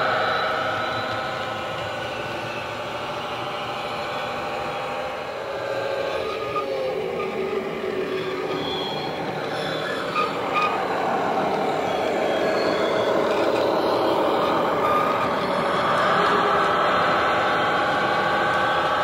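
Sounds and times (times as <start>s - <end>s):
diesel locomotive engine sound: 0.0s - 19.0s
model wheels running on track: 0.0s - 19.0s.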